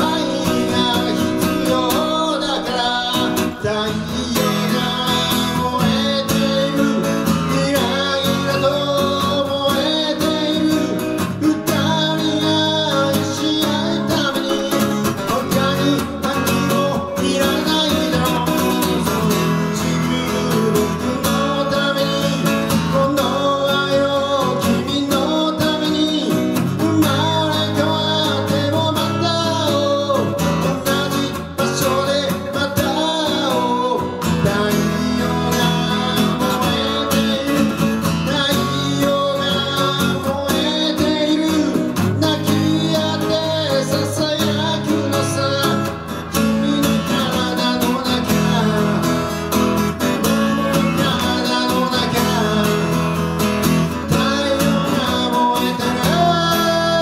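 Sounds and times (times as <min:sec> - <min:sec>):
acoustic guitar strummed and picked: 0:00.0 - 0:57.0
person singing: 0:00.0 - 0:57.0.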